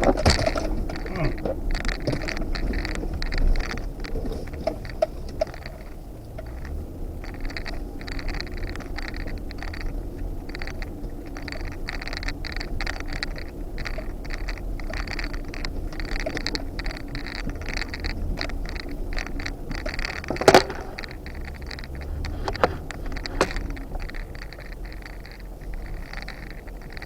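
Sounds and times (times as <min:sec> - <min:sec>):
low engine rumble: 0:00.0 - 0:27.0
tyres crunching over rocks: 0:00.0 - 0:27.0.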